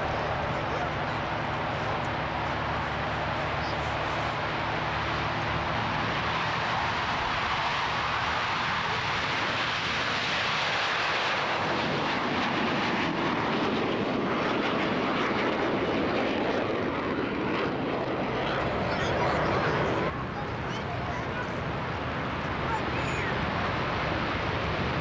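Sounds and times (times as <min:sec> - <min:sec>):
jet engines roaring on takeoff: 0:00.0 - 0:25.0.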